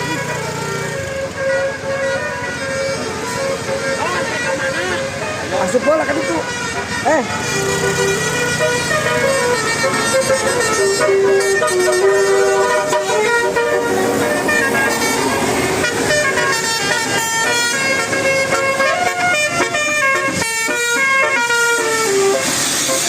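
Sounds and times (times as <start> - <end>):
musical bus air horn: 0.0 - 23.0.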